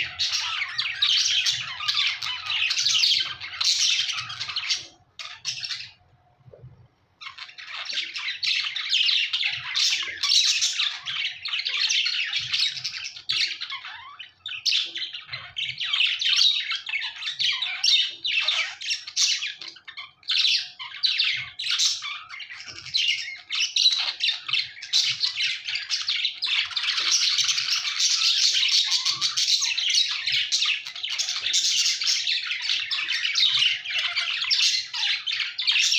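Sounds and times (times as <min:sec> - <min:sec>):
budgerigars chirping: 0:00.0 - 0:06.0, 0:07.2 - 0:35.9.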